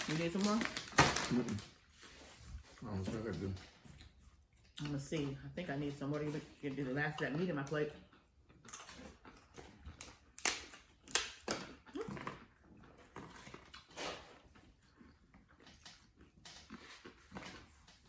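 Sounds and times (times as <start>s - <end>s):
crunching and chewing: 0.0s - 5.3s, 5.9s - 18.0s.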